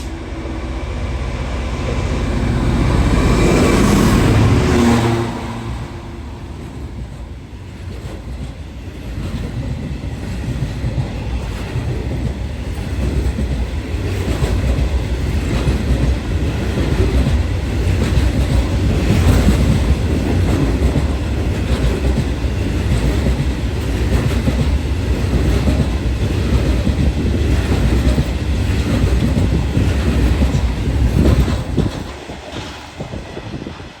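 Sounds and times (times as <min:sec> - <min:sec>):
freight train rumbling past: 0:00.0 - 0:34.0
wheel clatter over rail joints: 0:06.6 - 0:34.0.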